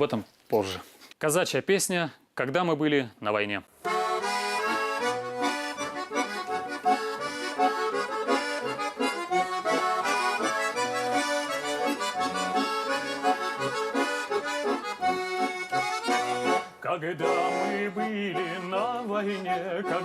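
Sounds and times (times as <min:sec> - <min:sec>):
button accordion folk melody: 0:03.8 - 0:20.0.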